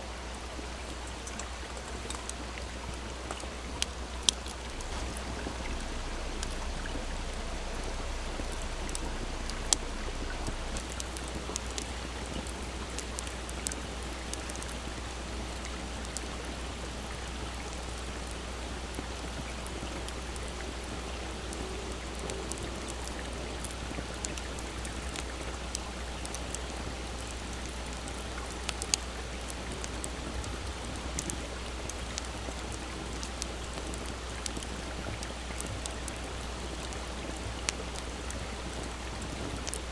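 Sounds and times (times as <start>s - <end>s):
babbling stream: 0.0s - 39.9s
campfire crackling and popping: 0.7s - 39.9s.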